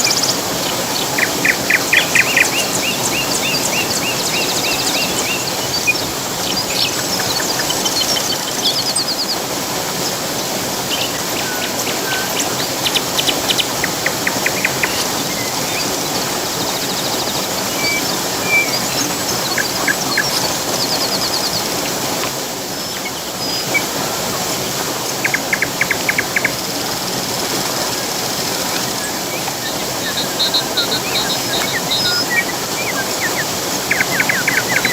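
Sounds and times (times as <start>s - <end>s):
songbirds trilling and chirping: 0.0s - 34.9s
waterfall rushing: 0.0s - 34.9s.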